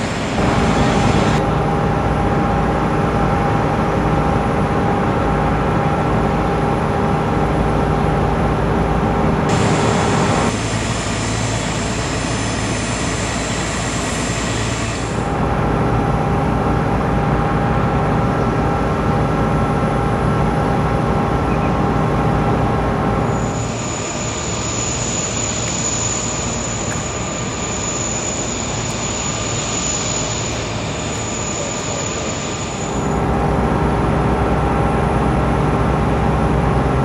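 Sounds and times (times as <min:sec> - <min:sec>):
high engine whine: 0:00.0 - 0:37.0
jet engines roaring: 0:00.0 - 0:37.0.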